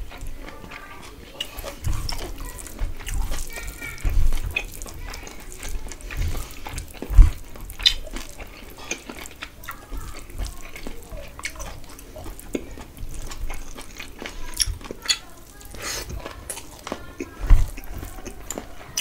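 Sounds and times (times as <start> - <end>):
hand squelching in food: 1.0 - 19.0.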